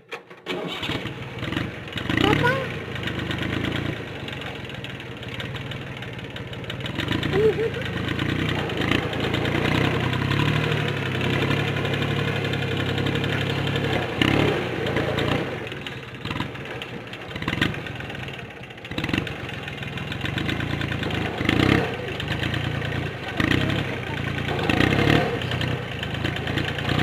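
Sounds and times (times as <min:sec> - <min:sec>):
diesel engine idling: 0:00.5 - 0:27.0.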